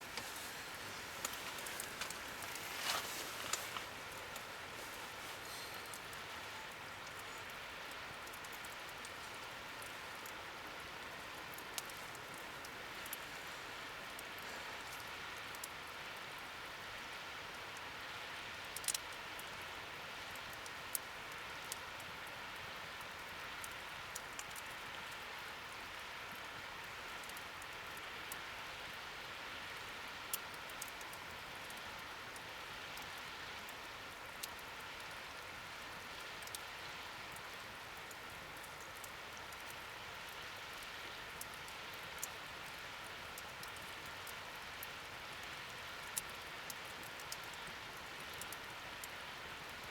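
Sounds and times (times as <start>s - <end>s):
wood fire crackling: 0.0s - 17.8s, 23.0s - 28.5s, 29.7s - 49.9s.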